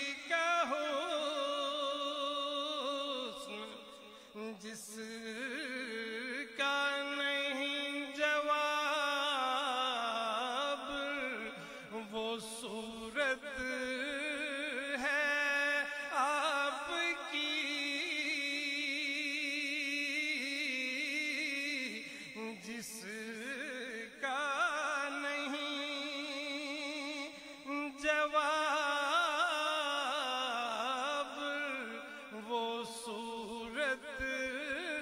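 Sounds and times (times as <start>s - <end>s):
man singing: 0.0s - 35.0s.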